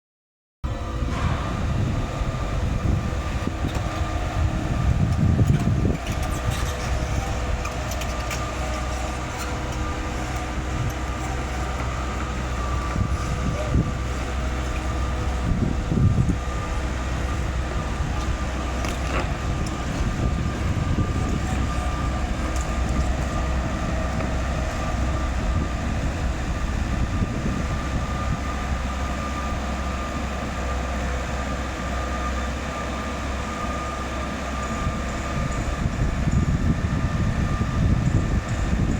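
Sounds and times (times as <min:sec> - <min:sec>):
constant whine: 0:00.6 - 0:38.9
diesel engine running: 0:00.6 - 0:38.9.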